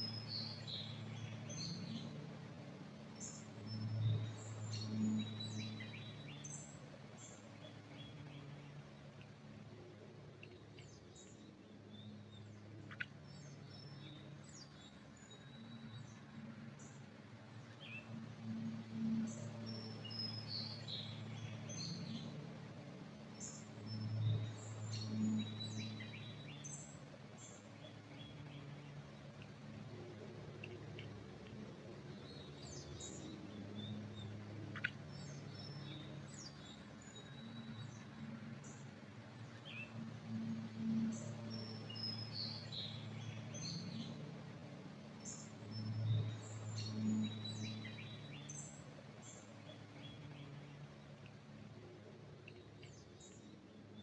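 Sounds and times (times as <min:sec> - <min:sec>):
low background hum: 0:00.0 - 0:54.0
songbirds chirping: 0:00.0 - 0:54.0.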